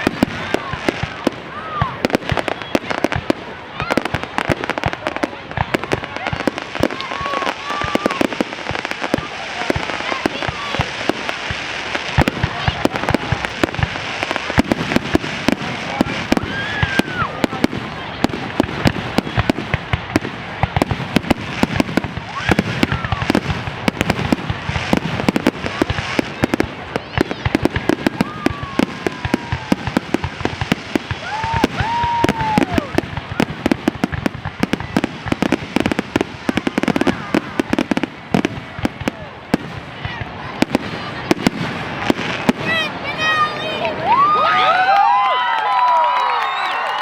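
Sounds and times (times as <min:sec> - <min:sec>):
fireworks whistling: 0:00.0 - 0:44.8
fireworks bangs and crackling: 0:00.0 - 0:47.0.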